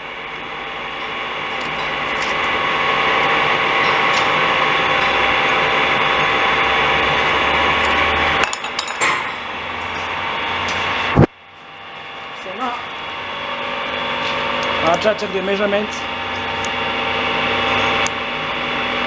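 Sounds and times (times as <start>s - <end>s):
machine running with hum: 0.0s - 19.0s.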